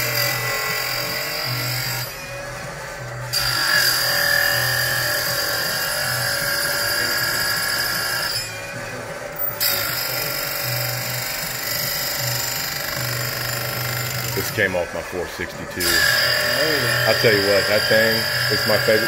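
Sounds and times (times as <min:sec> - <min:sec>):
chain grinder whining: 0:00.0 - 0:19.0.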